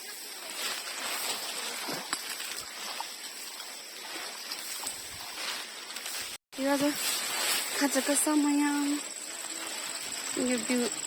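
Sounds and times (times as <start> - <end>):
running water hissing: 0.0 - 11.0.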